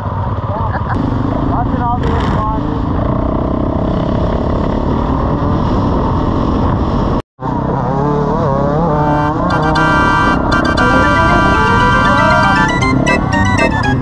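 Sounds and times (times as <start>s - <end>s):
trail bike engine revving: 0.5s - 14.0s.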